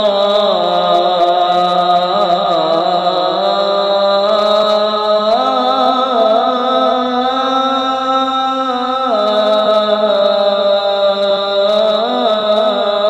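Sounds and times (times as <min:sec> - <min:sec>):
man chanting call to prayer: 0:00.0 - 0:13.0.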